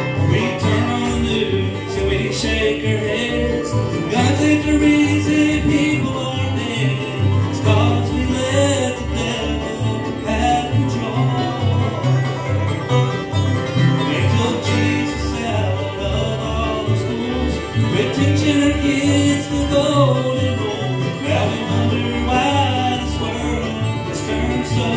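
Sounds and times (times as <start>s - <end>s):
acoustic guitar: 0.0s - 24.9s
banjo: 0.0s - 24.9s
fiddle: 0.0s - 24.9s
mandolin: 0.0s - 24.9s
upright bass walking: 0.0s - 24.9s.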